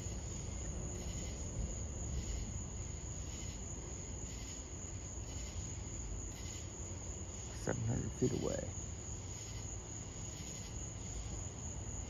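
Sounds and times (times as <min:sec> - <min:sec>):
low rumble of outdoor noise: 0:00.0 - 0:12.0
night insects trilling: 0:00.0 - 0:12.0.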